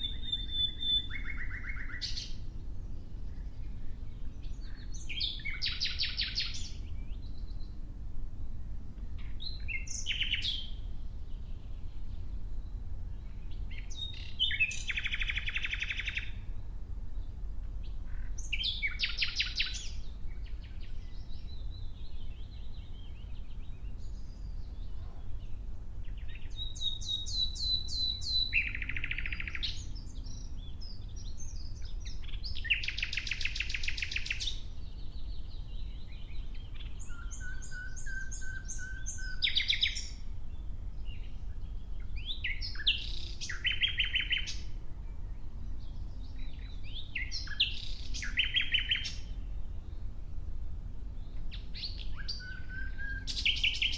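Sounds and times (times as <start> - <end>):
nightingale singing: 0.0 - 7.8, 9.2 - 50.1, 51.0 - 53.9
low steady rumble: 0.0 - 33.3, 34.5 - 53.9.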